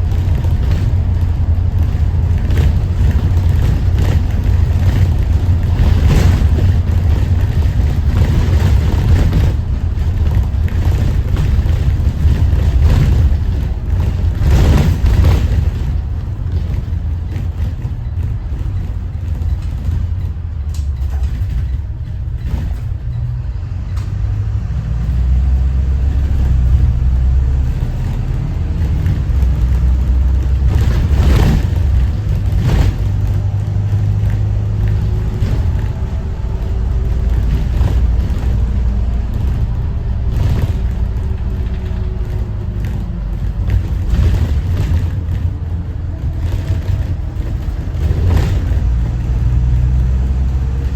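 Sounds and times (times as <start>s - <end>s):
bus body knocks and rattles: 0.0s - 50.9s
bus diesel engine drone: 0.0s - 50.9s.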